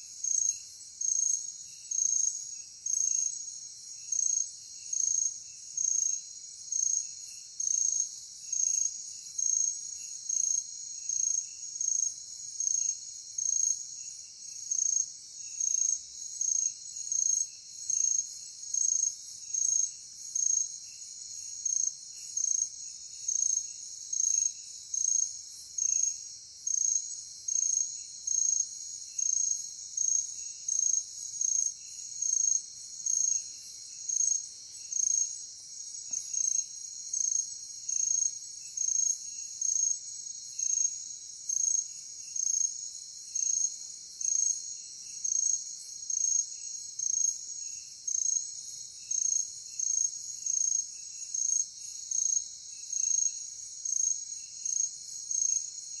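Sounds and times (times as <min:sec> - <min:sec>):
loud cricket chirp: 0:00.0 - 0:56.0.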